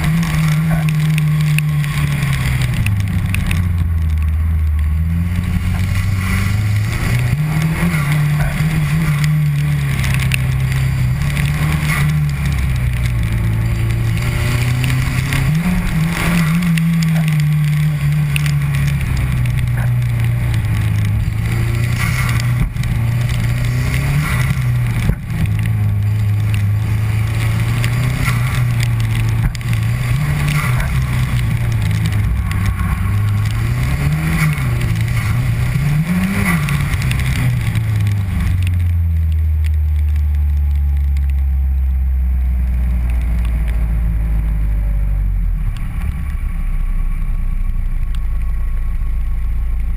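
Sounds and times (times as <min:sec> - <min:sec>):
car engine accelerating and slowing: 0:00.0 - 0:49.9.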